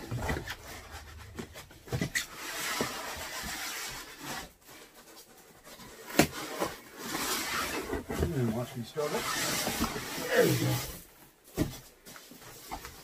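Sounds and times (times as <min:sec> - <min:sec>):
cardboard and packing peanuts rustling: 0:00.0 - 0:13.0.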